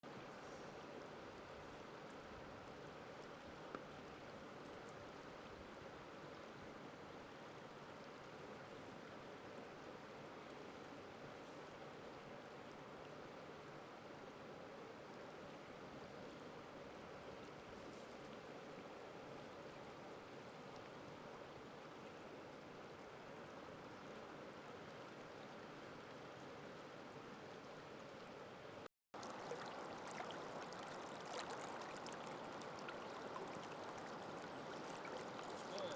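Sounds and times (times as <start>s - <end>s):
flowing creek water: 0.1s - 35.9s.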